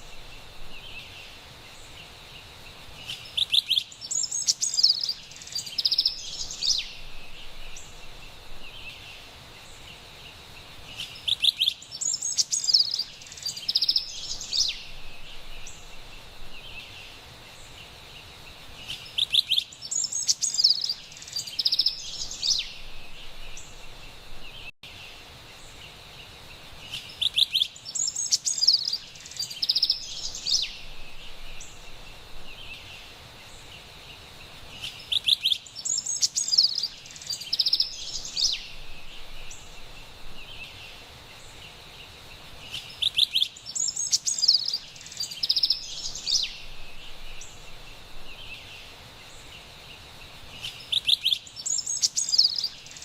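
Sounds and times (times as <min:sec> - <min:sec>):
faint high hiss: 0:00.0 - 0:53.0
wren singing: 0:03.0 - 0:10.0, 0:10.8 - 0:24.7, 0:26.8 - 0:53.0.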